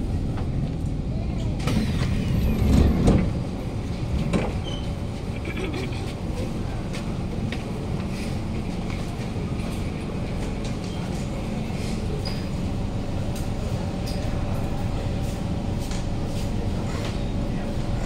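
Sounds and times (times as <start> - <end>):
passengers shuffling aboard: 0.0 - 18.0
train humming: 0.0 - 18.0.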